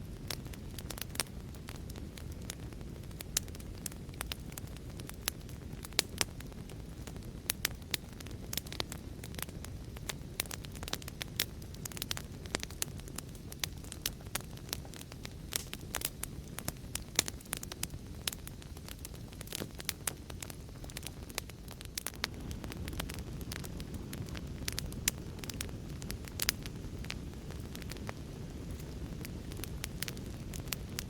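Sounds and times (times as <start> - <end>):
low rumble of burning: 0.0 - 31.0
wood fire crackling: 0.0 - 31.0.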